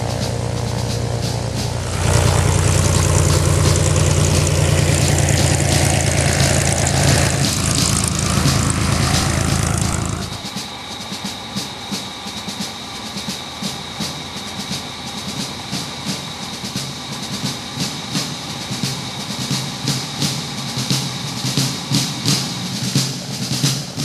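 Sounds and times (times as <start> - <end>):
plane engine and propeller running: 0.0 - 24.0.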